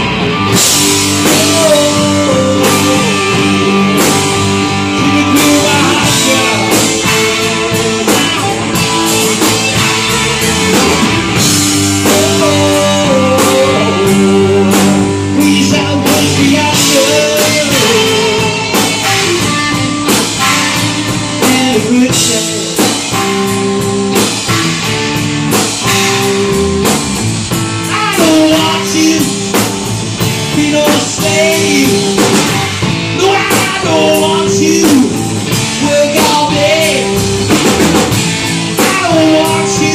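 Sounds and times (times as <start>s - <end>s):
distorted electric guitars: 0.0s - 39.9s
drum kit beat: 0.0s - 39.9s
electric bass: 0.0s - 39.9s
man singing: 0.6s - 24.2s, 27.8s - 38.1s, 38.7s - 39.9s.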